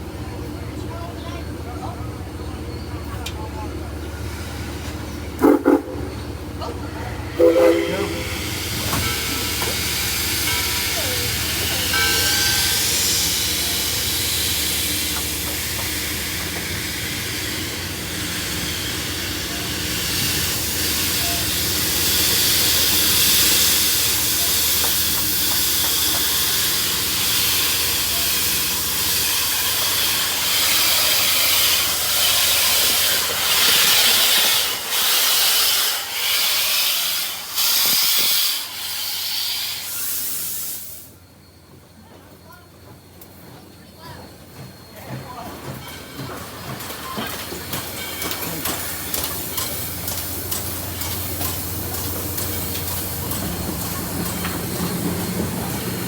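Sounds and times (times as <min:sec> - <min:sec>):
steam locomotive venting steam: 0:01.6 - 0:56.0.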